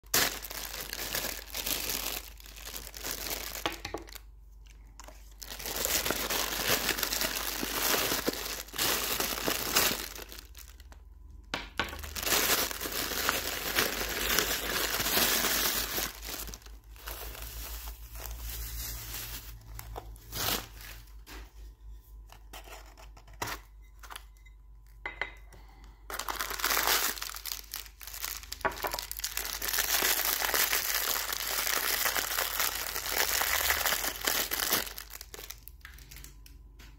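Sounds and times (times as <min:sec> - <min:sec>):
plastic packaging crinkling: 0:00.0 - 0:21.7, 0:26.0 - 0:36.6.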